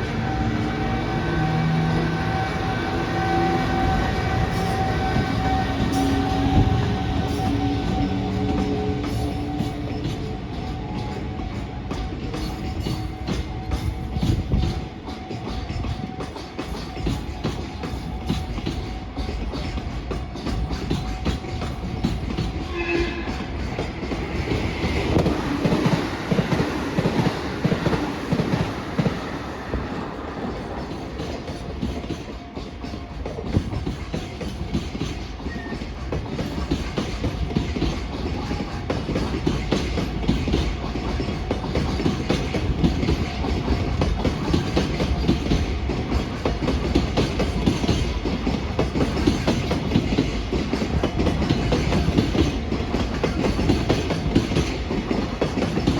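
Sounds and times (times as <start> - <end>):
freight train passing: 0.0 - 55.9
wheels clicking over rail joints: 3.8 - 55.9.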